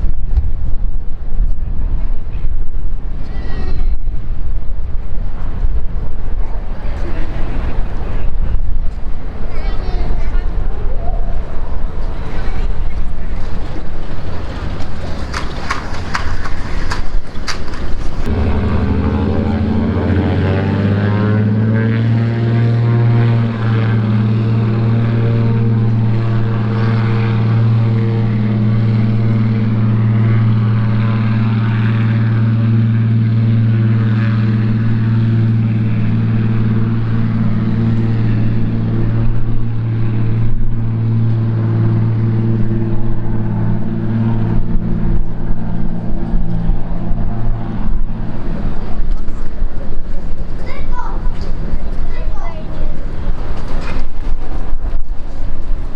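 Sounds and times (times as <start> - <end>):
propeller plane engine drone: 0.0 - 55.9.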